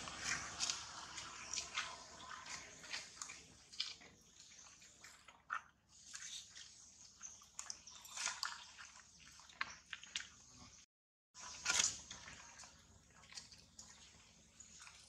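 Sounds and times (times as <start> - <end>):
monkeys eating fruit wetly: 0.0 - 15.0.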